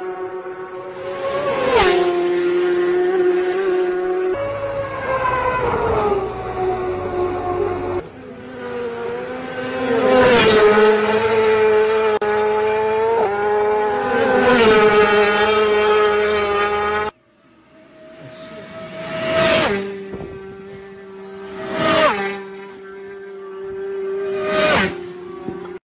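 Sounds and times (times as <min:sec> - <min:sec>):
motorcycle approaching: 0:00.0 - 0:25.8
racing motorcycles passing: 0:00.0 - 0:25.8.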